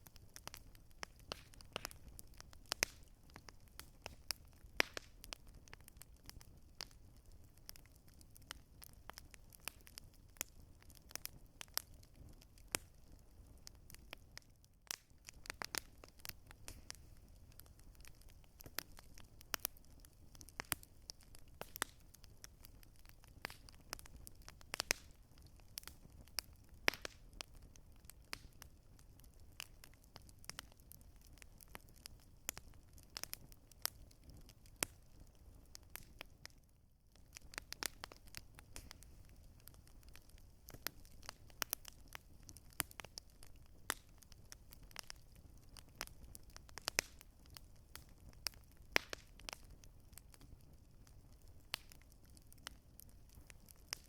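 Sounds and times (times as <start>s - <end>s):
campfire wood crackling and popping: 0.0s - 54.0s
faint low fire rumble: 0.0s - 54.0s.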